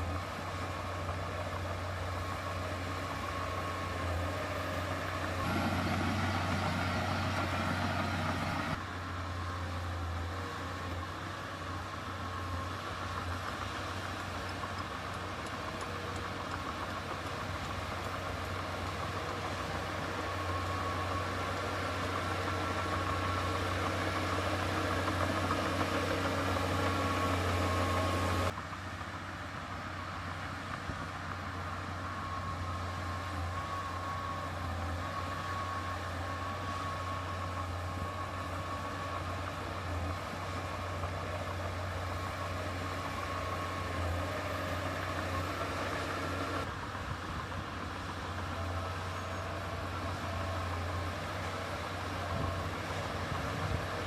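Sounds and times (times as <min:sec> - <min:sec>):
faint steady whine: 0:00.0 - 0:54.0
heavy diesel engine droning: 0:00.0 - 0:54.0.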